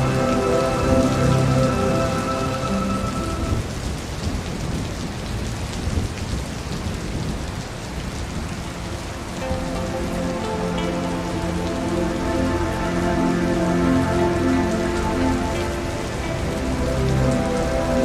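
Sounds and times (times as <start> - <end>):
steady rain into a puddle: 0.0 - 18.0.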